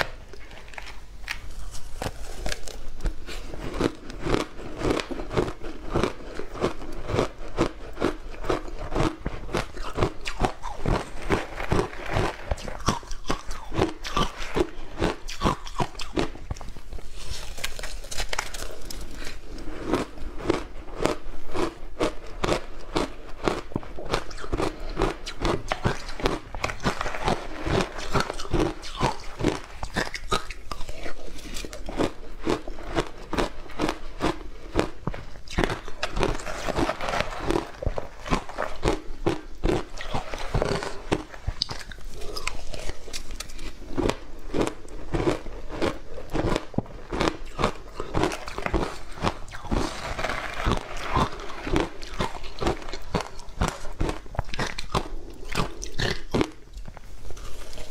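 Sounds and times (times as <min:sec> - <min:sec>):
crunchy chewing: 0:00.0 - 0:57.9.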